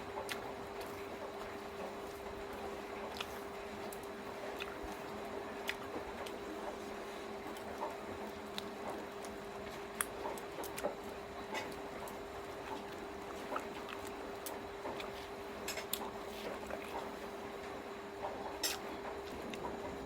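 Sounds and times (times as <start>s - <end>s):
wet chewing clicks and smacks: 0.1s - 17.4s.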